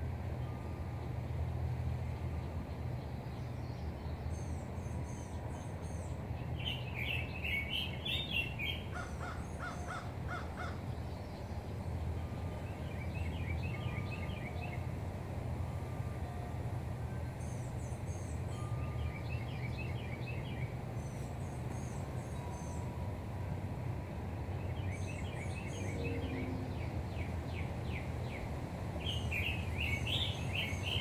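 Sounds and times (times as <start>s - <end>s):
low outdoor rumble: 0.0s - 31.0s
songbirds chirping: 0.2s - 31.0s.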